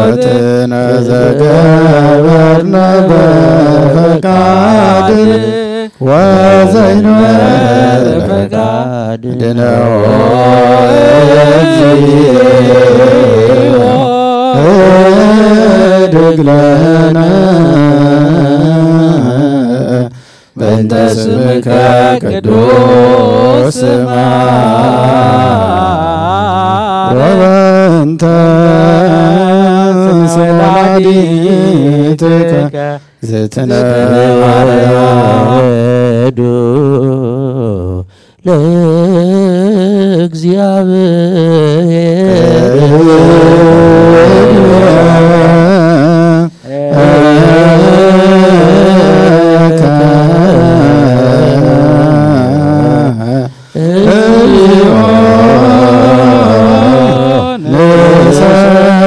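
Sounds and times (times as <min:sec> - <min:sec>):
men chanting a prayer: 0:00.0 - 0:59.0.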